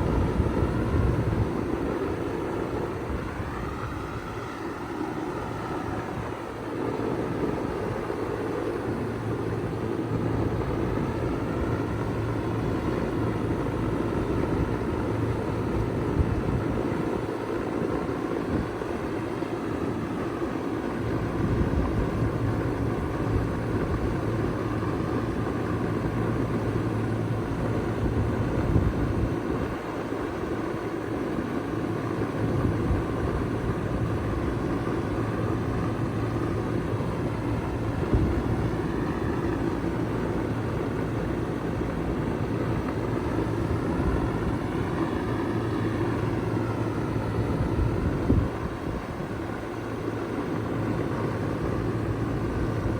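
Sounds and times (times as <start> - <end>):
compressor humming: 0.0 - 52.9.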